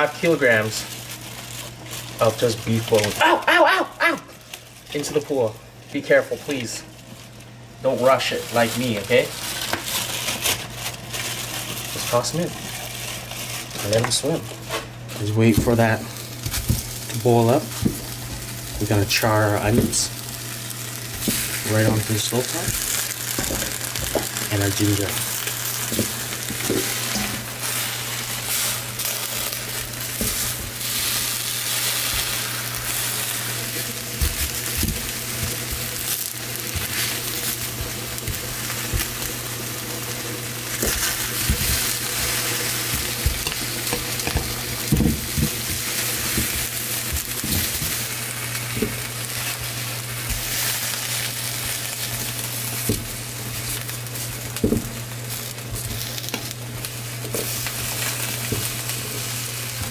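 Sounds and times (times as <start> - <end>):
vegetables sizzling on stovetop: 0.0 - 59.9.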